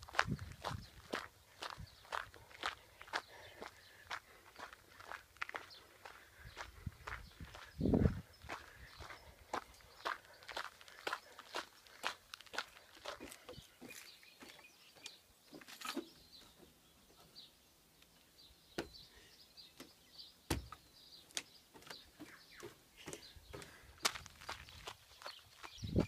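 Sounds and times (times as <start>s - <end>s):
footsteps on gravel: 0.0s - 16.5s, 21.4s - 26.0s
footsteps on metal grating: 0.0s - 17.3s, 18.7s - 19.1s, 19.7s - 26.0s.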